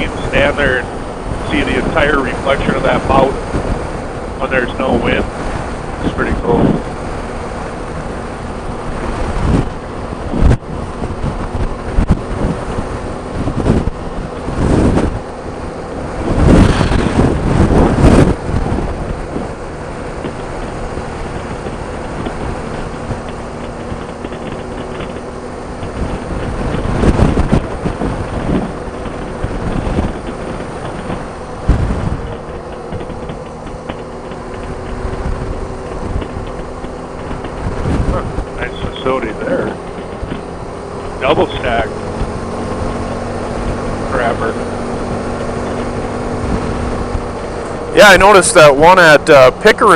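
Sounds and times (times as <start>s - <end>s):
motorcycle engine hum: 0.0s - 49.9s
wind buffeting microphone: 0.0s - 49.9s.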